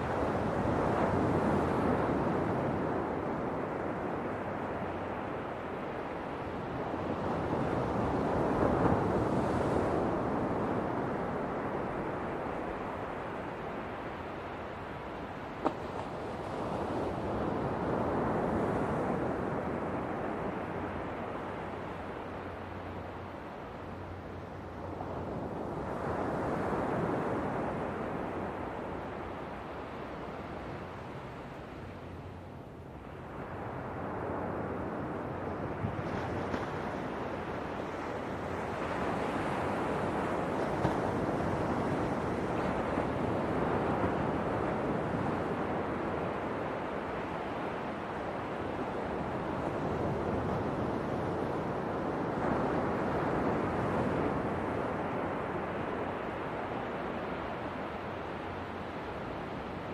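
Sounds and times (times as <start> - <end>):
ocean waves washing in: 0.0 - 59.9.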